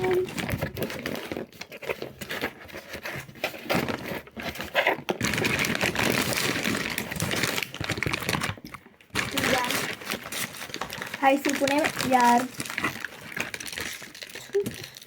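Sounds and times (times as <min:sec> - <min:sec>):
paper crinkling: 0:00.0 - 0:15.0.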